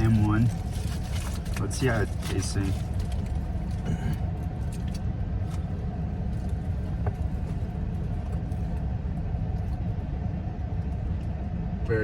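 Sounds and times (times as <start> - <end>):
engine rumble inside van cabin: 0.0 - 12.0.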